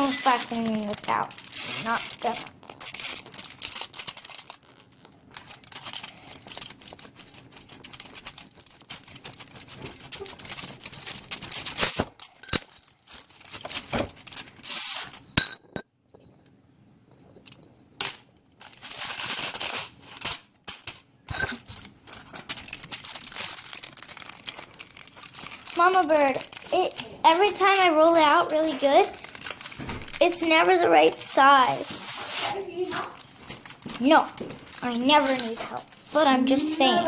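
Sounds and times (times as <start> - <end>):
aluminium foil crinkling: 0.0 - 15.4, 17.4 - 37.0.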